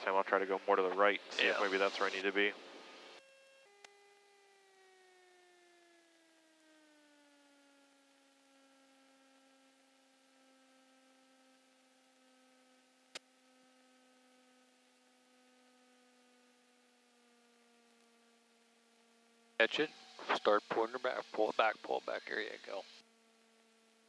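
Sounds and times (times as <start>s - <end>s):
faint alternator whine: 0.0s - 24.0s.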